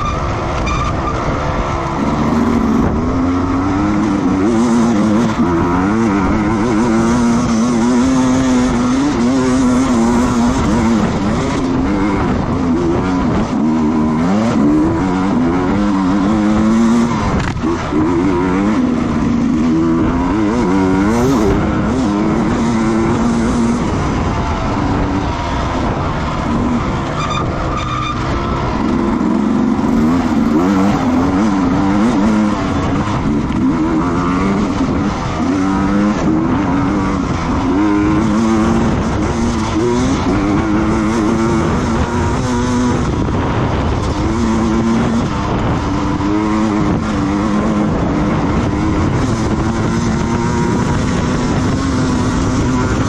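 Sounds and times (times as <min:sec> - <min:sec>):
racing motorcycle engines revving: 0:00.0 - 0:53.0.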